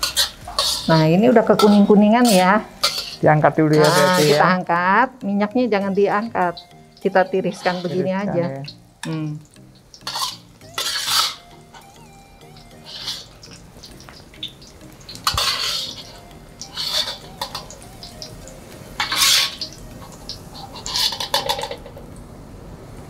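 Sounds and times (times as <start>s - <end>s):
metal utensil scraping a pan: 0.0s - 9.1s, 9.8s - 11.9s, 12.8s - 22.1s.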